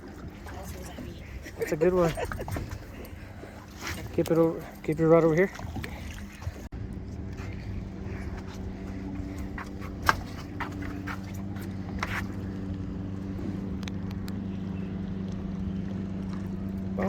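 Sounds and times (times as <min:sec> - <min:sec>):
boat motor humming: 0:00.0 - 0:17.0.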